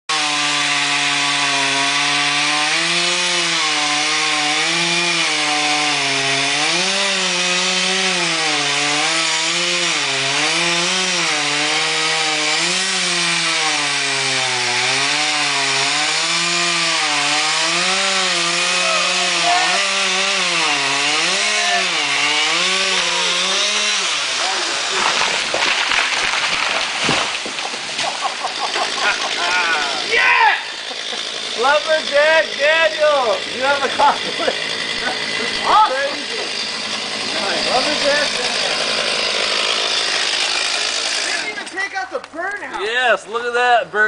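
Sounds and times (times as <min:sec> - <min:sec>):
chainsaw cutting through tree trunk: 0:00.1 - 0:44.0.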